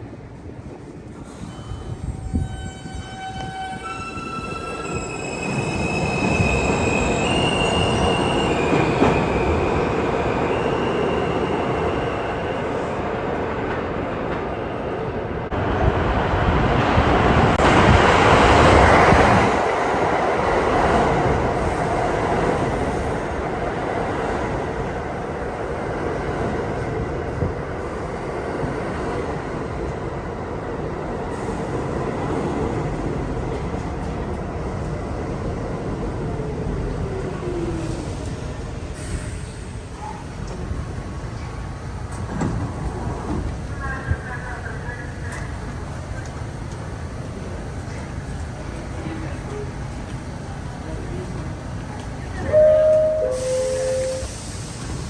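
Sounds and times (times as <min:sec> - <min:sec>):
train wheels rumbling and squealing: 0:00.9 - 0:15.5, 0:16.8 - 0:55.0.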